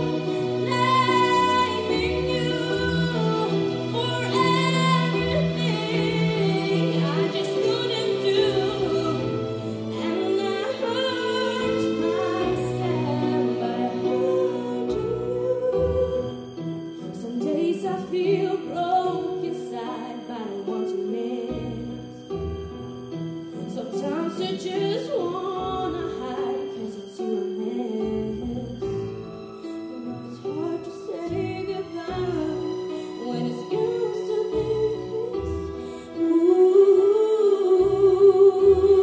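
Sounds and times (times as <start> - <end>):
instrumental accompaniment: 0.0 - 39.0.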